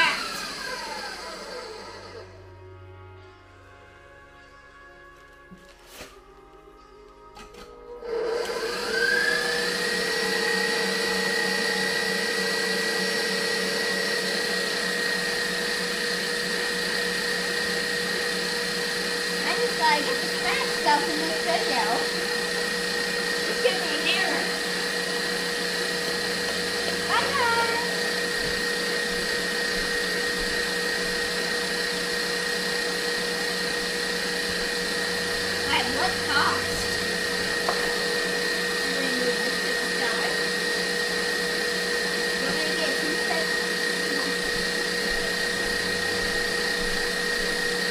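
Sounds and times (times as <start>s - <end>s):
kitchen appliance motor whine: 0.0s - 47.9s.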